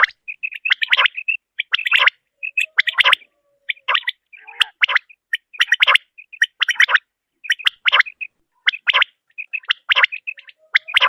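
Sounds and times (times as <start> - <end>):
quail calling harshly: 0.0 - 11.0
quiet bird chirps: 0.0 - 11.0.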